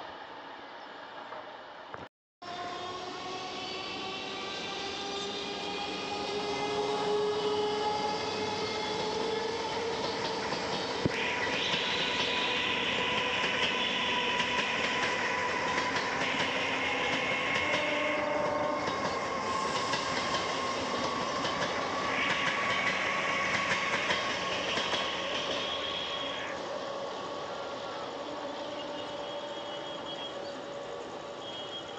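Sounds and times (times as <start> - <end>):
train whine: 0.0 - 31.9.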